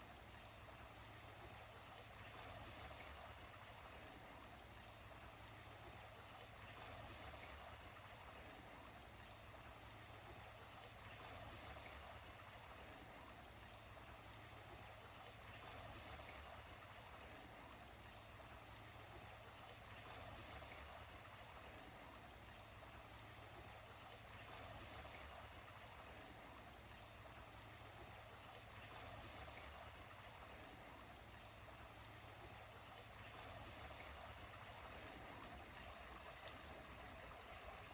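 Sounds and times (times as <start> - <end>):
creek water trickling: 0.0 - 37.9.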